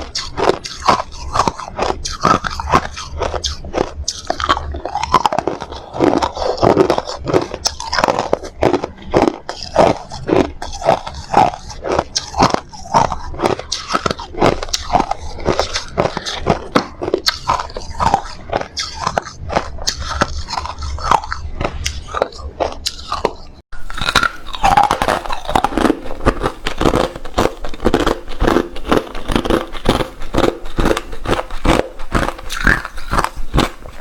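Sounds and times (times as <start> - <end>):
ice being chewed: 0.0 - 34.0.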